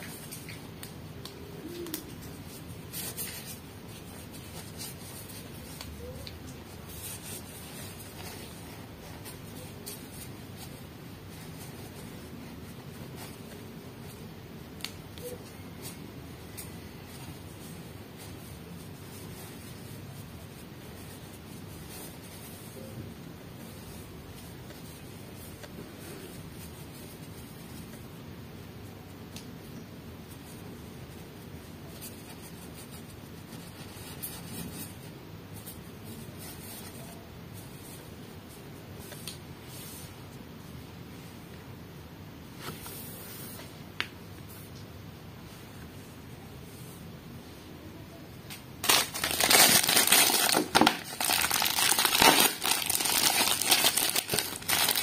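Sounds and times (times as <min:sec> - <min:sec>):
room hiss: 0:00.0 - 0:55.0.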